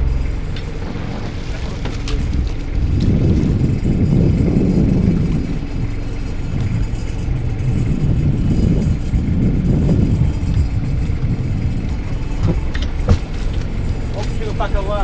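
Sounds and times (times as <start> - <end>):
boat engine rumble: 0.0 - 15.0
wind buffeting microphone: 0.0 - 15.0.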